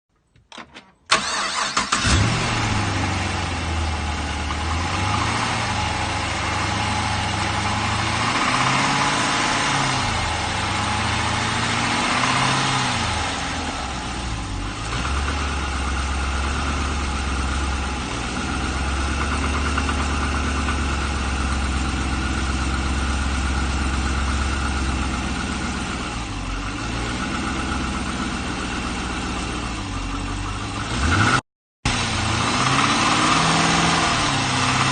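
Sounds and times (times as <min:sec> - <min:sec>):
car engine cranking and starting: 0:00.2 - 0:34.9
car engine idling: 0:01.1 - 0:12.2, 0:13.1 - 0:30.9.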